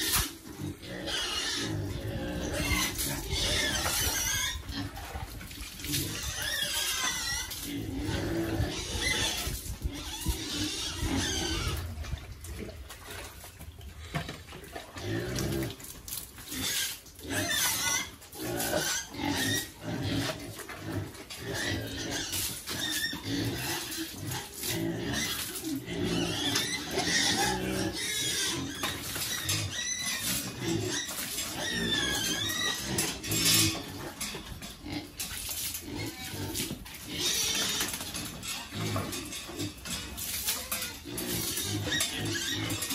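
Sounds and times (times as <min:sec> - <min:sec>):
pigs grunting and squealing: 0:00.0 - 0:42.9.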